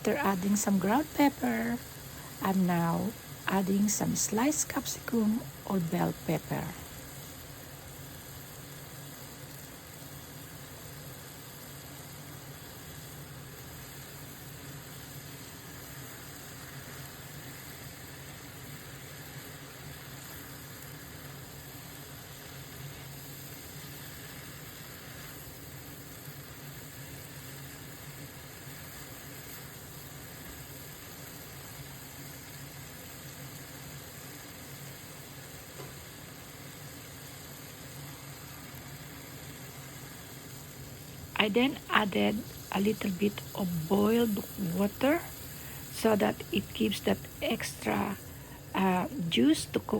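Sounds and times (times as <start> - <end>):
meat and vegetables sizzling in a pan: 0.0 - 49.9.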